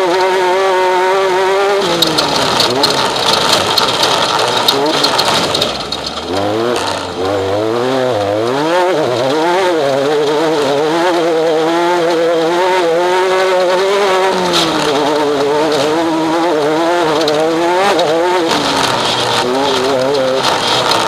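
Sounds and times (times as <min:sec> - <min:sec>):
race vehicle engine revving: 0:00.0 - 0:21.0.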